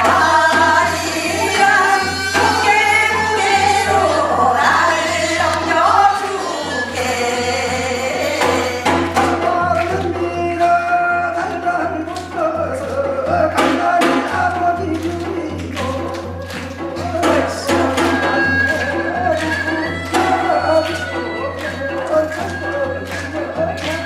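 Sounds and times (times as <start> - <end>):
drum strokes: 0.0 - 24.0
person singing folk song: 0.0 - 24.0.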